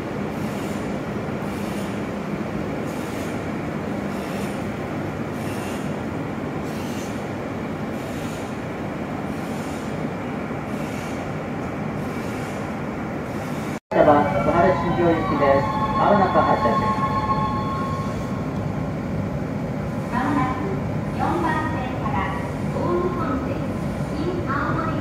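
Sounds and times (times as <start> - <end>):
train equipment drone: 0.0 - 25.0.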